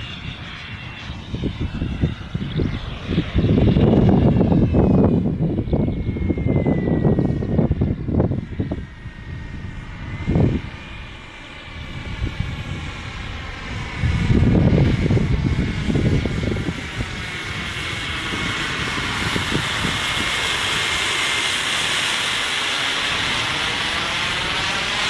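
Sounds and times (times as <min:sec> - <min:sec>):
high turbine whine: 0:00.0 - 0:25.0
low rumble: 0:00.0 - 0:25.0.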